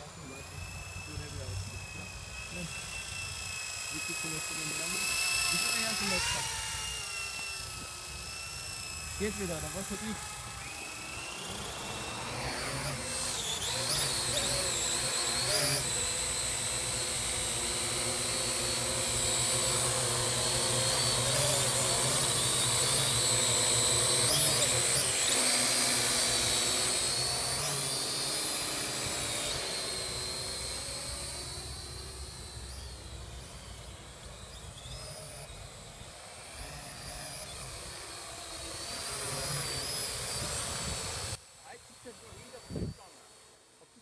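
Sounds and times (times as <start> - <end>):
quadcopter propellers whining: 0.0 - 44.0.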